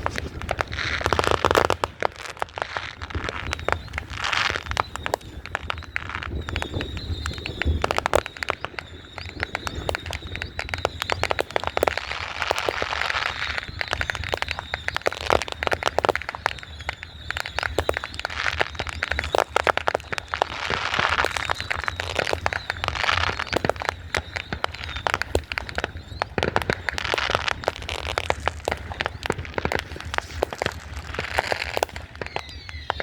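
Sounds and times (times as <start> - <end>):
fireworks crackling: 0.0 - 33.0
fireworks popping and banging: 0.0 - 33.0.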